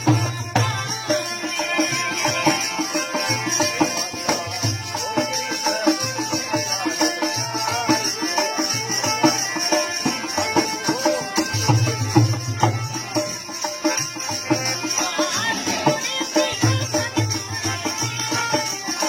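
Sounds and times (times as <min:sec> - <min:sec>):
hand drum beat: 0:00.0 - 0:05.3, 0:06.9 - 0:19.0.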